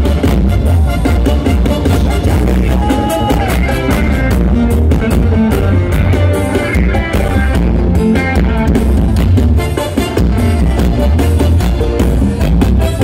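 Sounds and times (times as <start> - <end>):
heavy bass: 0.0 - 13.0
live band playing: 0.0 - 13.0
steady drumbeat: 0.0 - 13.0.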